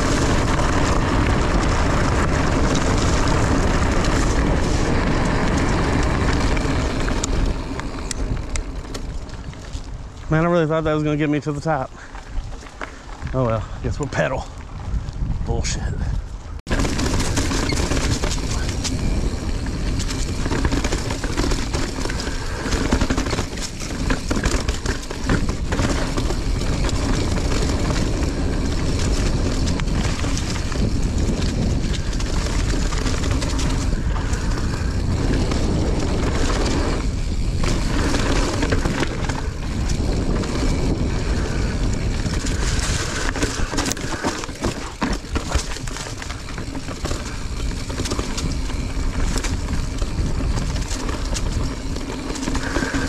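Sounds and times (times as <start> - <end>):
bike tyre chain and frame rattle: 0.0 - 53.0
wind rumbling on microphone: 0.0 - 53.0.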